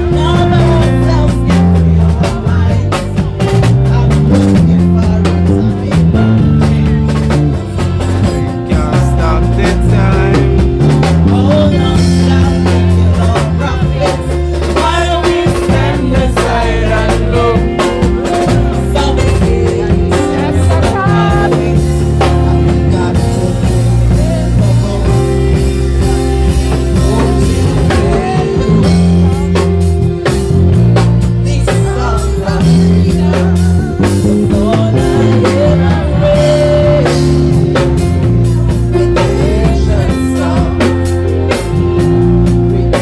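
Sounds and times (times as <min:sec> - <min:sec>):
live reggae band playing: 0:00.0 - 0:43.0
person singing: 0:00.0 - 0:43.0.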